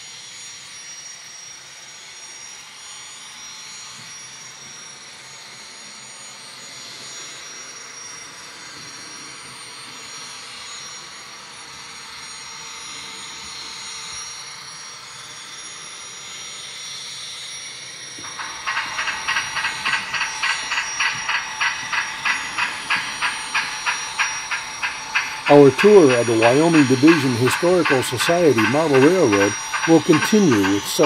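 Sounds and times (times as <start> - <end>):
jet-like turbine whine: 0.0 - 31.0.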